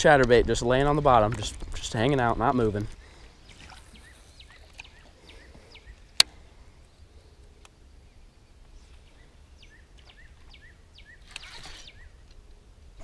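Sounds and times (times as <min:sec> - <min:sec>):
birds chirping: 0:01.9 - 0:13.0.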